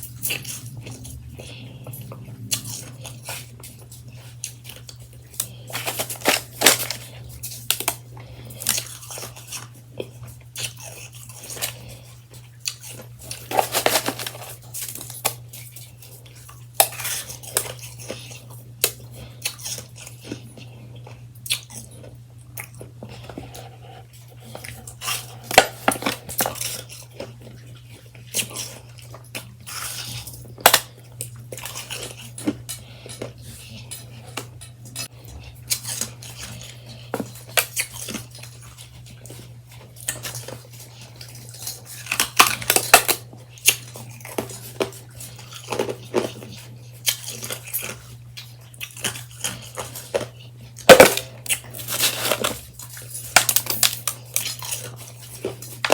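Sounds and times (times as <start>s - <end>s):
ice crunching being eaten: 0.0s - 55.9s.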